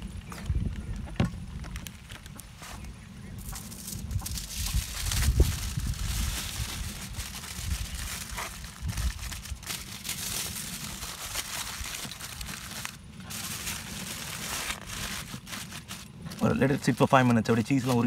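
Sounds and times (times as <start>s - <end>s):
foil crinkling: 1.6s - 18.0s.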